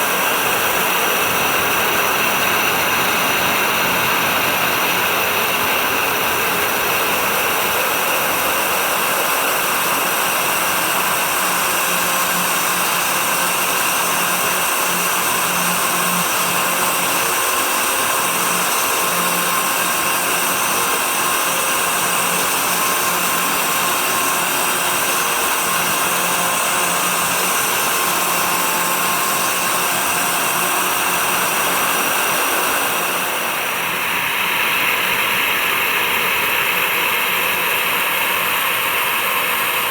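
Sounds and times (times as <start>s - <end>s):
dust extractor suction noise: 0.0s - 39.9s
router spindle motor running: 0.0s - 39.9s.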